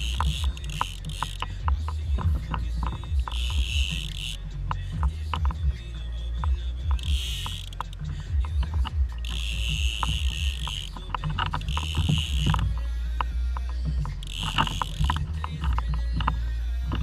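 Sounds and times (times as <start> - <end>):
fishing reel clicking: 0.0 - 17.0
low steady rumble: 0.0 - 17.0.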